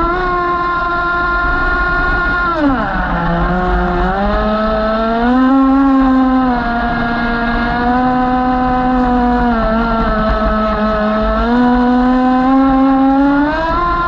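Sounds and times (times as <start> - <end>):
model boat motor whining: 0.0 - 14.0.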